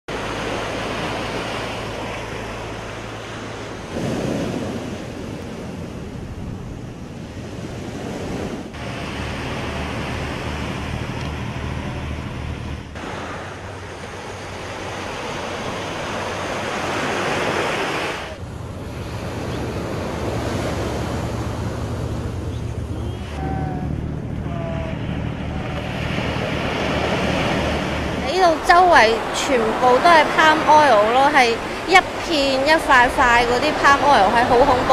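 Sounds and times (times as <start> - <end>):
small waves washing onto sand: 0.1 - 34.9
wind rumbling on microphone: 0.1 - 34.9.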